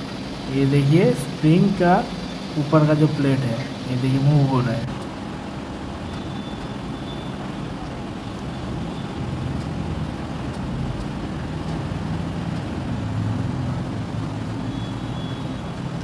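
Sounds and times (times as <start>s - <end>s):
low rumble of machinery: 0.0s - 16.0s.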